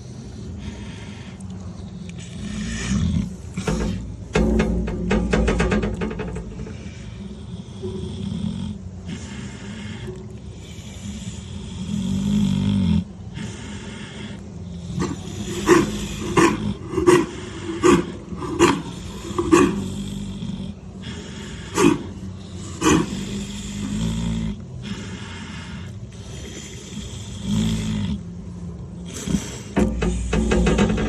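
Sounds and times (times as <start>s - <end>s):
pig snoring: 0.0s - 31.0s
pig snorting: 0.0s - 31.0s.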